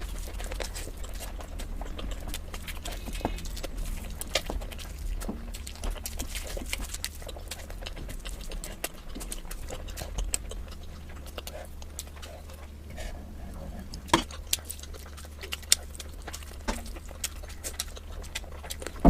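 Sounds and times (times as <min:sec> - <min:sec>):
low hum: 0:00.0 - 0:19.0
person chewing food: 0:00.0 - 0:19.0.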